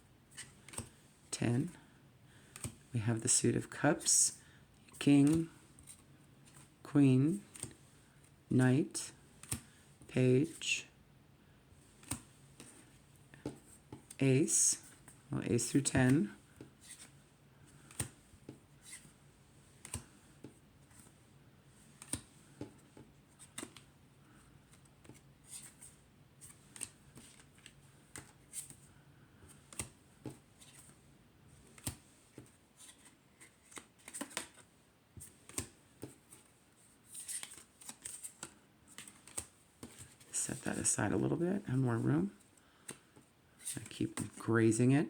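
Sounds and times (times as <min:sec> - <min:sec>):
cards slapping and clicking: 0:00.4 - 0:01.2, 0:02.3 - 0:02.9, 0:04.9 - 0:10.8, 0:11.8 - 0:31.0, 0:31.6 - 0:40.9, 0:42.5 - 0:44.5.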